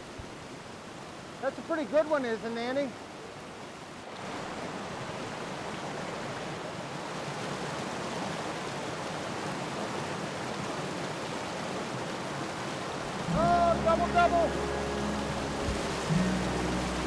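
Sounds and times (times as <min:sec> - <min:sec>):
stream rushing over cascade: 0:00.0 - 0:17.0.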